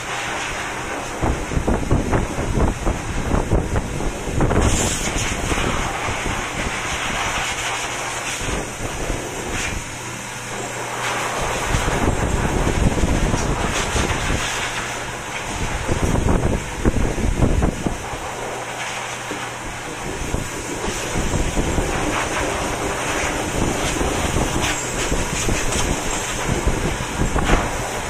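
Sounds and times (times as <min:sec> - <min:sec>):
grooming dryer blowing air: 0:00.0 - 0:28.0
wind buffeting microphone: 0:00.7 - 0:10.0, 0:11.4 - 0:18.4, 0:19.6 - 0:28.0.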